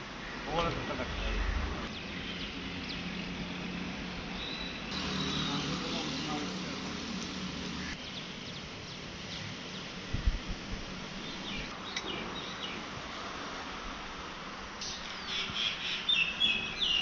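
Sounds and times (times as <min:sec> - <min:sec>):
birds chirping: 0:00.0 - 0:10.1, 0:11.1 - 0:13.2, 0:14.8 - 0:17.0
outdoor background hiss: 0:00.0 - 0:17.0.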